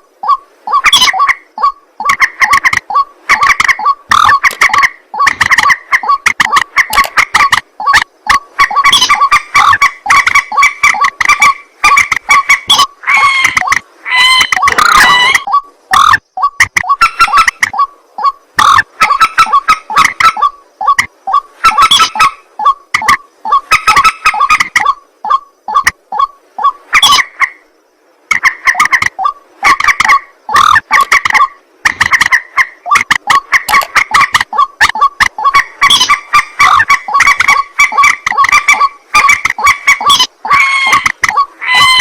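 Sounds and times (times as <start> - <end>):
harsh repeated bird calls: 0.0 - 42.0.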